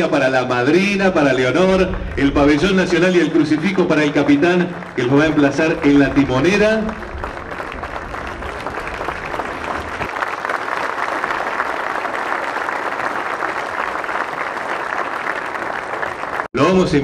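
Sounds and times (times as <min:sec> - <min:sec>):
crowd applauding: 0:00.7 - 0:16.5.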